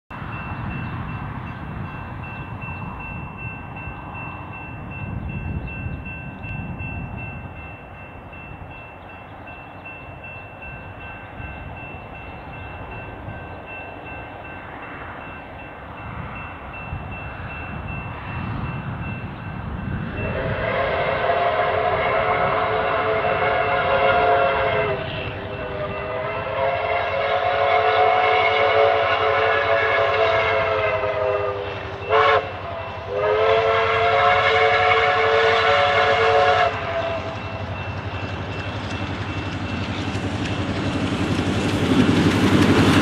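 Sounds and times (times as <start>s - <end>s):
distant train rumble: 0.1s - 43.0s.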